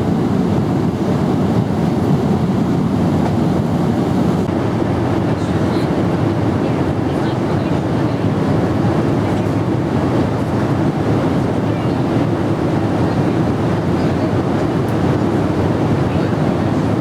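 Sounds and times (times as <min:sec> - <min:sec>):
airliner cabin noise: 0:00.0 - 0:17.0.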